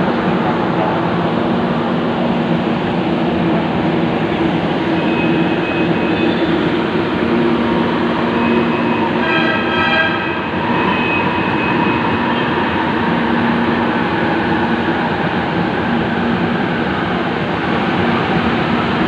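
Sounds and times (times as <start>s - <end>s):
metro train rumble: 0.0s - 19.0s
train whine: 0.0s - 19.0s.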